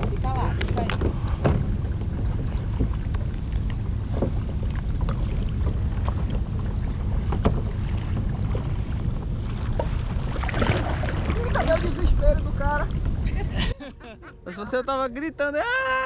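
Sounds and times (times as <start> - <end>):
short splashes and knocks: 0.0 - 13.2
wind rumbling on microphone: 0.0 - 13.8
choppy river water: 0.0 - 16.0.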